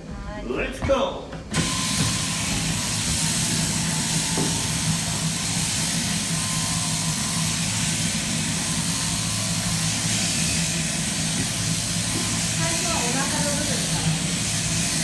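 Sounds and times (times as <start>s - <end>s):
sheep-shearing machine humming: 0.0s - 15.0s.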